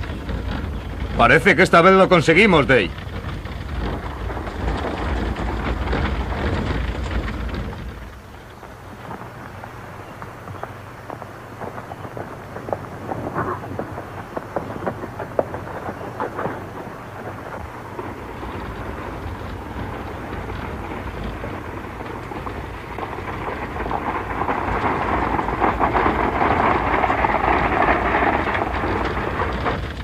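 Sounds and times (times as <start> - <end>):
horse hoofbeats on dirt road: 0.0 - 30.0
stagecoach rumbling: 0.0 - 30.0.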